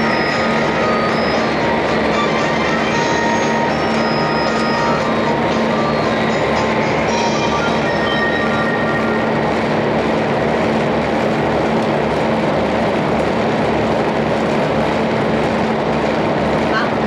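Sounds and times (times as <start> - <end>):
train running noise inside car: 0.0 - 17.0.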